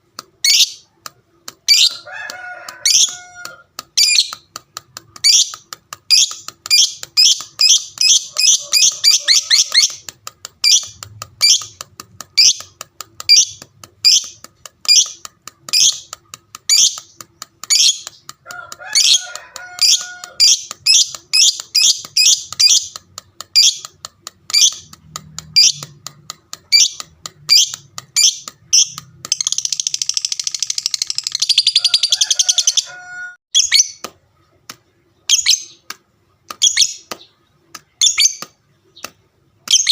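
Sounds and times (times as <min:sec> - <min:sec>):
lovebird chirping and trilling: 0:00.4 - 0:00.9, 0:01.5 - 0:02.1, 0:02.7 - 0:34.0, 0:35.2 - 0:35.8, 0:36.5 - 0:39.9.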